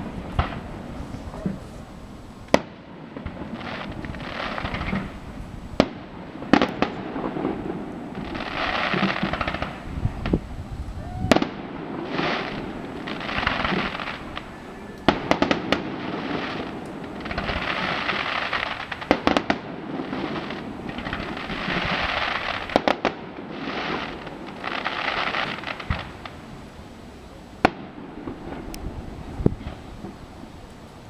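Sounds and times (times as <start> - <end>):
crackling hiss of firework stars: 0.0 - 31.0.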